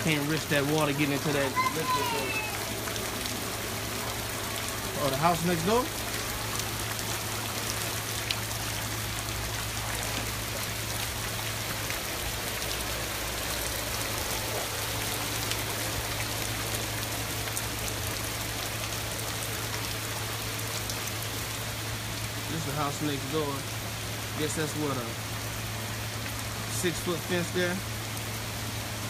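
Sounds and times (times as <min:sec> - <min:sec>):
rain falling on water: 0:00.0 - 0:29.0.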